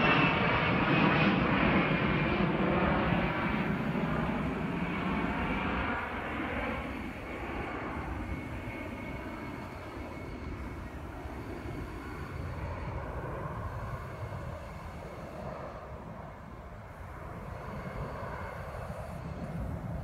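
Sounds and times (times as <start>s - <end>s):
faint thin whine: 0.0s - 20.0s
jet engine rumble: 0.0s - 20.0s.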